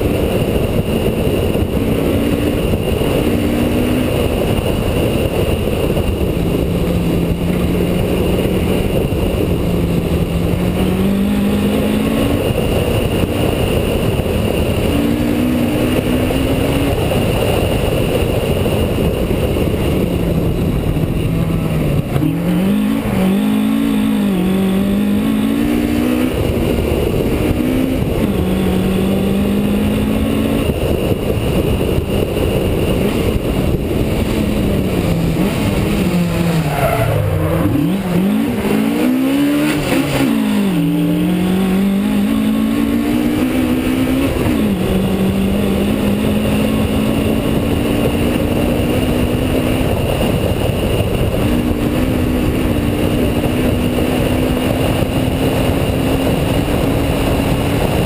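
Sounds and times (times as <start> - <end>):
rally car engine revving: 0.0 - 58.0
road and wind noise: 0.0 - 58.0.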